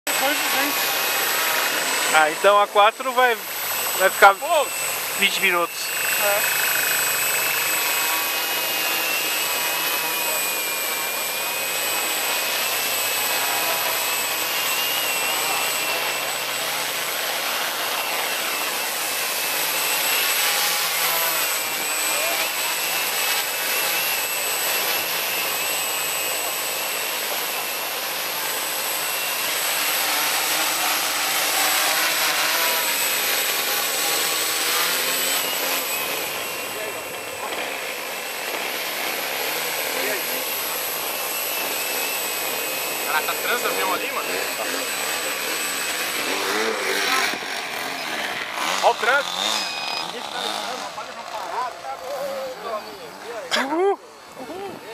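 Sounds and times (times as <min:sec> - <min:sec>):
drone motors whining: 0:00.1 - 0:54.9.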